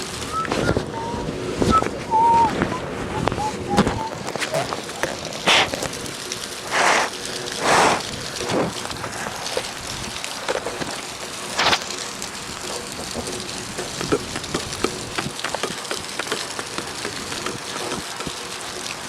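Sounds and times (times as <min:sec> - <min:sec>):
rain falling: 0:00.0 - 0:19.0
raindrops ticking on microphone: 0:00.0 - 0:19.0.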